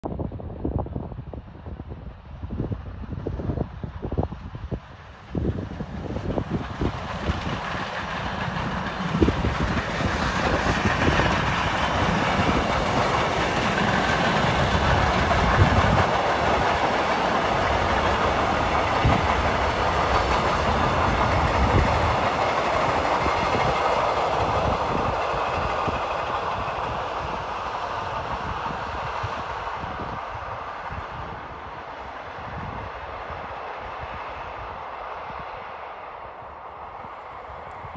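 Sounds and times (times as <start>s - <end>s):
steam locomotive exhaust beats: 2.7s - 36.0s.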